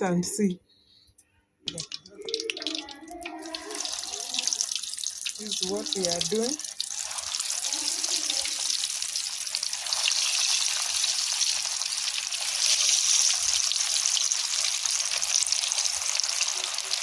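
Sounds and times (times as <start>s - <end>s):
potatoes sizzling in hot oil: 1.8s - 17.0s.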